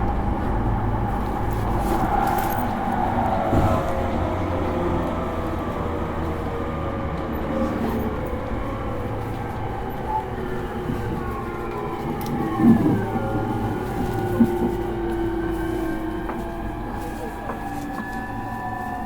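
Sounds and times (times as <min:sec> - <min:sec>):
traction motor whine: 0:00.0 - 0:19.0
train wheel and rail rumble: 0:00.0 - 0:19.0.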